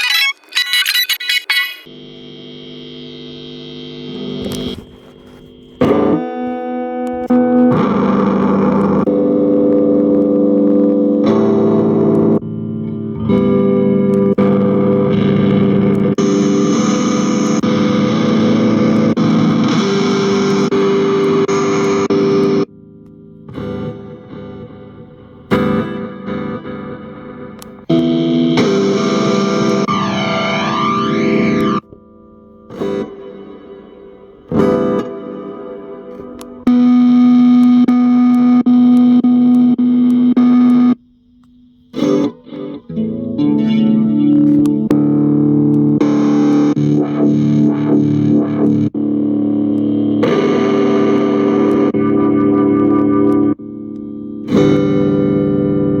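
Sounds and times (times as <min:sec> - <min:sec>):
electric guitar chords: 0:05.5 - 0:56.0.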